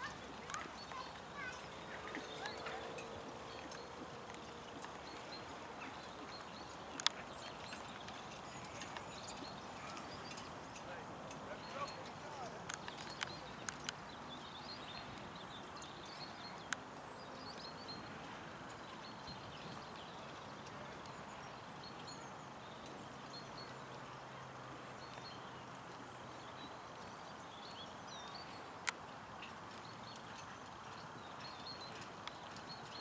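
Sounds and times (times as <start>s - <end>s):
outdoor background hiss: 0.0s - 33.0s
small birds chirping: 0.0s - 33.0s.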